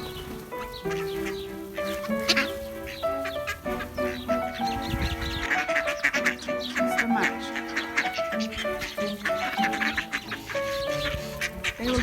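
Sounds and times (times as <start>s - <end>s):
background music of held notes: 0.0s - 12.0s.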